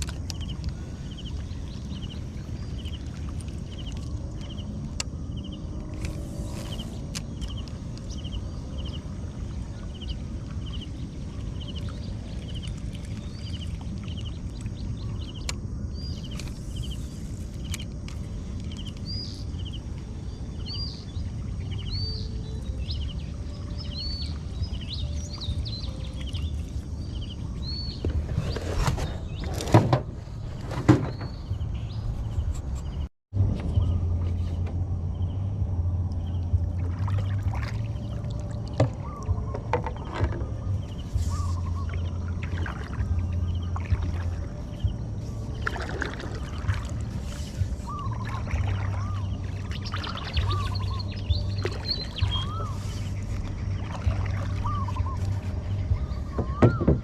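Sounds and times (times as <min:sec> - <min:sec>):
birds chirping: 0:00.0 - 0:57.0
steady low background noise: 0:00.0 - 0:57.0.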